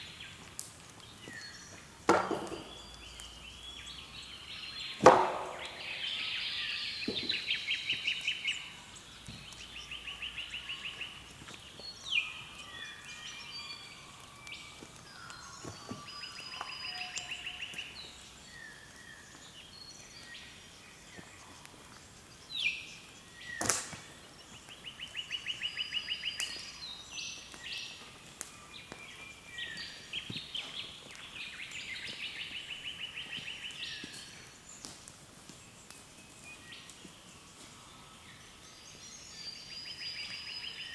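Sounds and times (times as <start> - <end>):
birds dawn chorus: 0.0 - 40.9.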